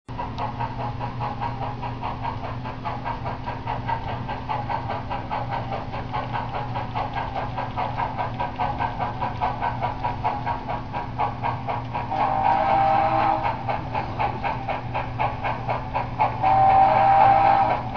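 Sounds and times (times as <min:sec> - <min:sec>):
model steam locomotive chuffing: 0:00.1 - 0:17.9
steady low hum: 0:00.1 - 0:17.9.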